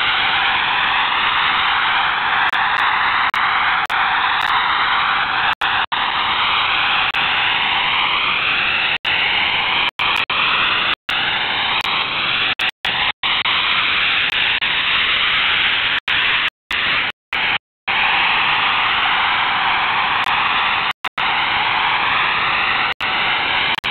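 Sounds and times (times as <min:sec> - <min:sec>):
shortwave radio hiss: 0:00.0 - 0:23.9.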